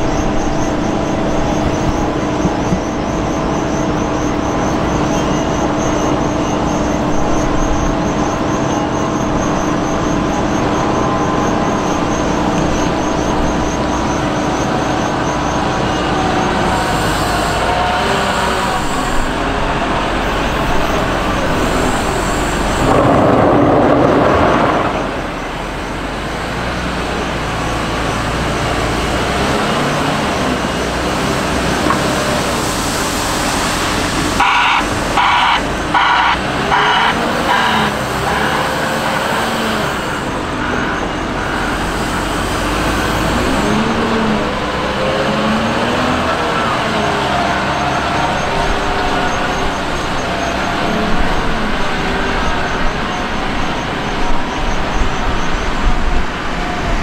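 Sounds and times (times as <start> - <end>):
reversing alarm beeping: 0.0 - 26.0, 33.6 - 56.0
wheel loader diesel engine: 0.0 - 57.0.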